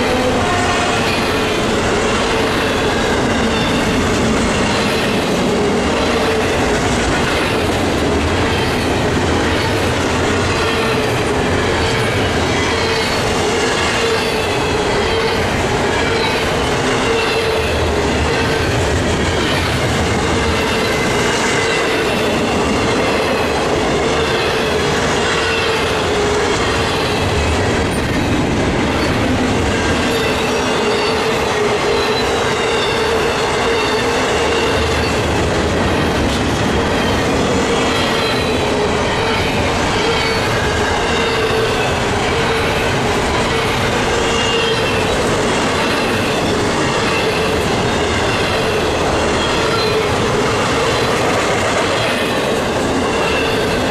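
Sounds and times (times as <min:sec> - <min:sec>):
steel wheels clattering on rail: 0:00.0 - 0:53.9.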